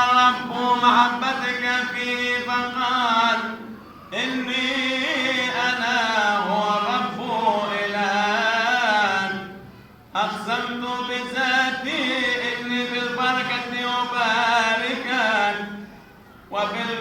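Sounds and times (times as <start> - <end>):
person chanting: 0.0 - 9.6, 10.2 - 15.9, 16.5 - 17.0.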